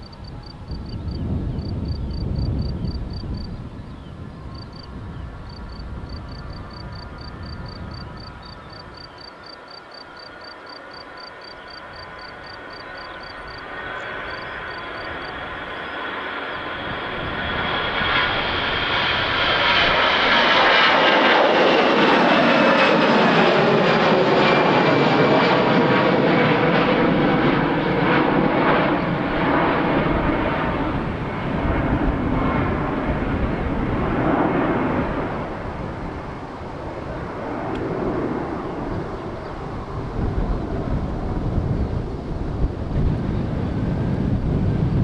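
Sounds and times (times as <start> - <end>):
jet engine roar passing: 0.0 - 45.0.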